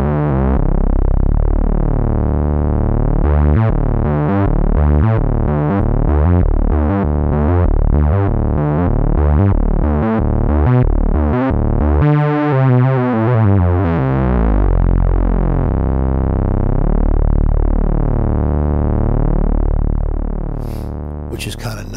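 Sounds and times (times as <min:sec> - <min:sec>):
synthesizer bass line: 0:00.0 - 0:21.9.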